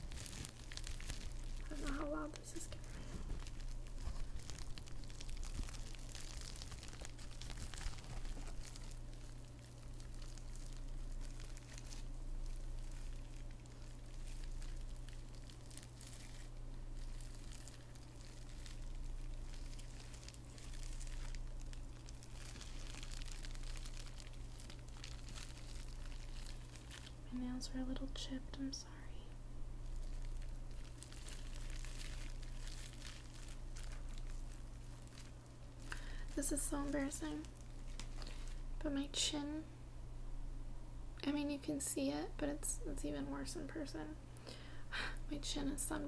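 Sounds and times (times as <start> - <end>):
bubble wrap crinkling: 0.0 - 29.0, 29.7 - 39.1
steady low hum: 0.0 - 46.0.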